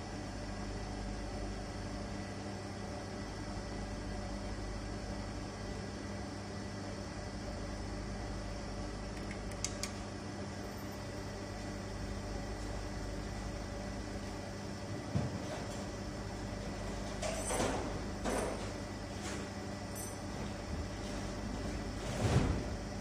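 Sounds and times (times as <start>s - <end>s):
vacuum pump humming: 0.0s - 23.0s.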